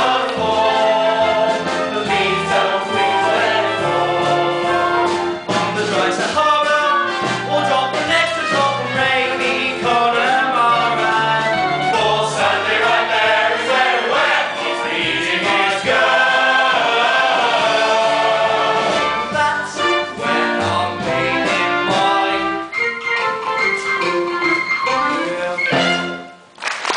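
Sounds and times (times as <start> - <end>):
chorus singing: 0.0 - 23.0
orchestra playing: 0.0 - 26.6.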